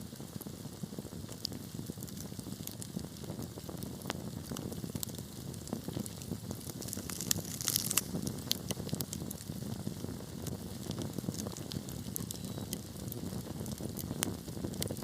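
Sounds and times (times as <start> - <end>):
fire rumbling: 0.0 - 15.0
wood crackling and popping: 0.0 - 15.0.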